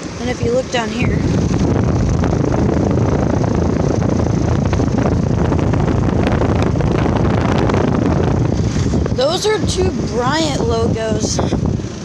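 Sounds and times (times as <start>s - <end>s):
air conditioner fan rushing: 0.0s - 12.0s
compressor hum: 0.0s - 12.0s.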